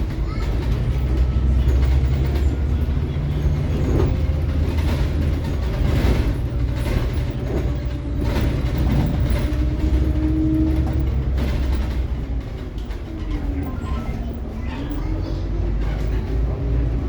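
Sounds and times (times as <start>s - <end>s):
bus engine drone: 0.0s - 17.0s
road noise: 0.0s - 17.0s
body knocks and rattles: 0.2s - 15.1s.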